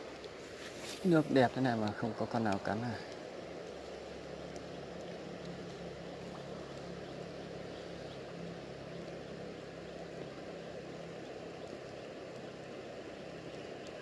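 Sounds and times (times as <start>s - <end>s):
shallow river flowing: 0.0s - 14.0s
low engine-like hum: 1.1s - 14.0s.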